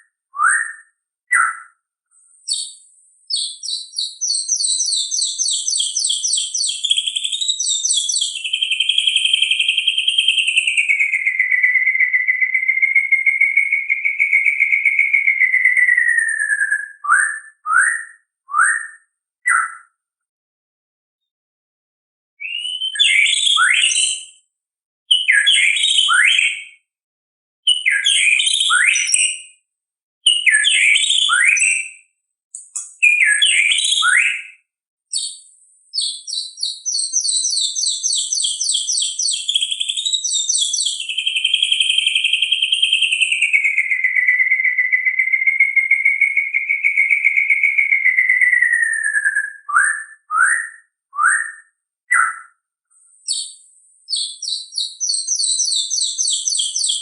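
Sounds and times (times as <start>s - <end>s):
bird singing fluty phrases: 0.0s - 1.8s, 2.4s - 20.0s, 22.4s - 24.3s, 25.1s - 26.8s, 27.7s - 29.5s, 30.2s - 52.6s, 53.2s - 57.0s.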